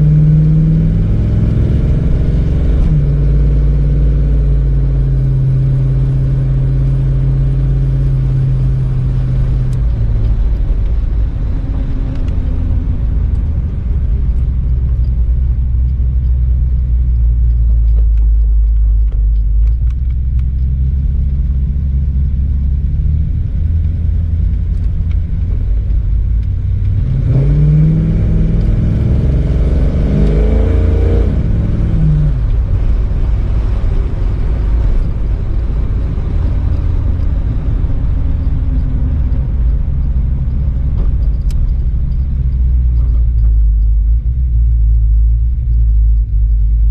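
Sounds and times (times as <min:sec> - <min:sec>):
car engine rumbling: 0:00.0 - 0:46.9.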